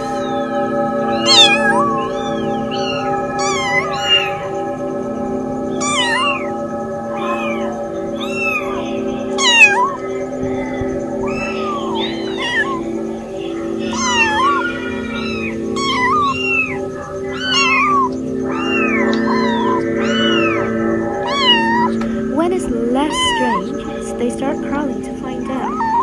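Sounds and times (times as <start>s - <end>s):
kittens mewing: 0.0s - 4.9s, 5.6s - 26.0s
background music with pulsing beat: 0.0s - 26.0s.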